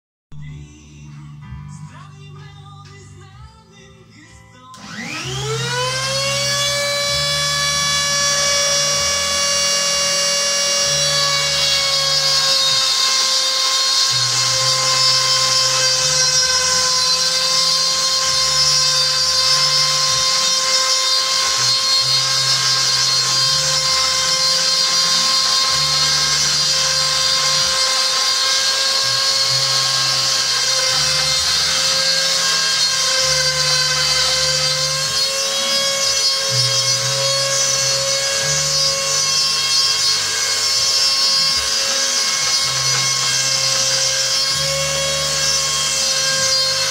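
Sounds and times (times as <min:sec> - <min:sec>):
rotary tool high-pitched whine: 0:04.8 - 0:46.9.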